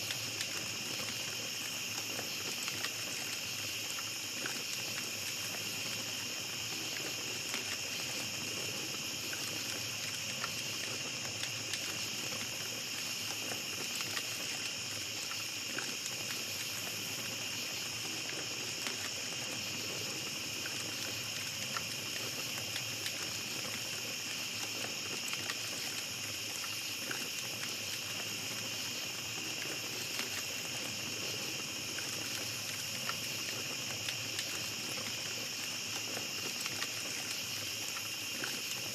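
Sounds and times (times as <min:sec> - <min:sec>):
campfire crackling and popping: 0:00.0 - 0:38.9
night insects chorus: 0:00.0 - 0:38.9.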